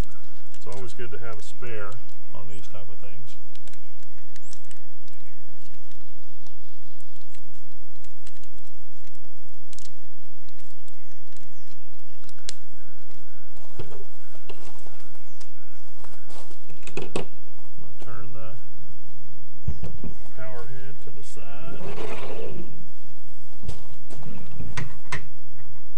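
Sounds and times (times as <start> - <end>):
handling noise: 0.0 - 18.8, 19.6 - 25.9
low background rumble: 0.0 - 25.9.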